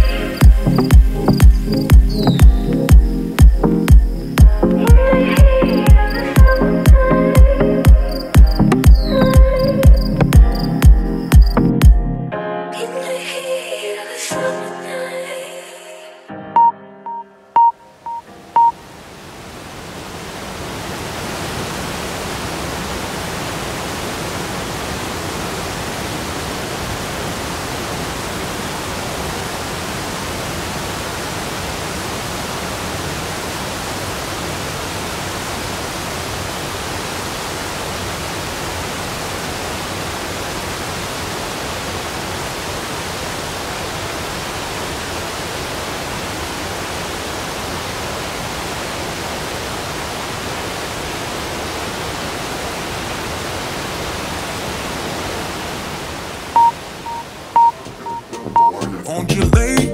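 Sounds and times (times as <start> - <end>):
waterfall rushing: 0.0 - 11.6, 17.9 - 59.9.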